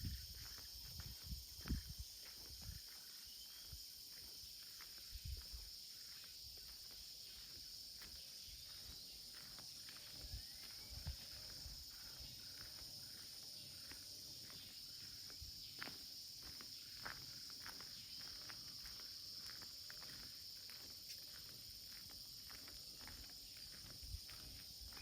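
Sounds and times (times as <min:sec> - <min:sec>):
crickets chirping: 0:00.0 - 0:25.0
soft footsteps: 0:00.0 - 0:25.0.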